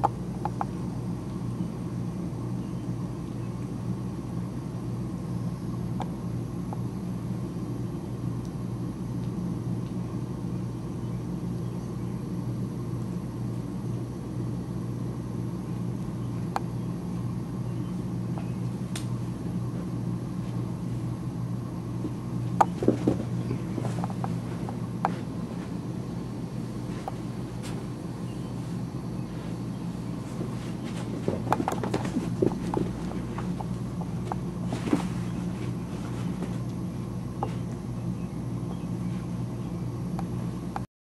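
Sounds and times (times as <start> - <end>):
steady low droning hum: 0.0 - 40.9.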